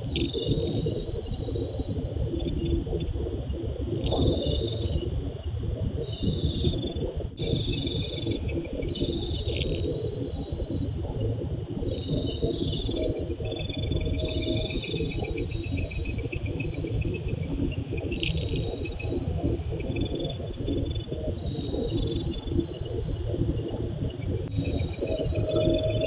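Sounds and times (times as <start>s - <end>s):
steady low rumble: 0.0s - 26.0s
crickets chirping: 0.1s - 2.8s, 4.1s - 5.3s, 6.0s - 11.0s, 11.8s - 26.0s.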